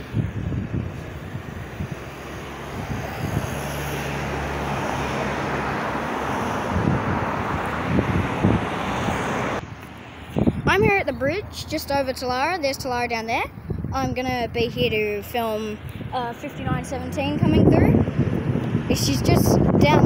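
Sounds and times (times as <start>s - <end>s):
engine rumble: 0.0s - 20.0s
wind gusting on microphone: 0.0s - 20.0s.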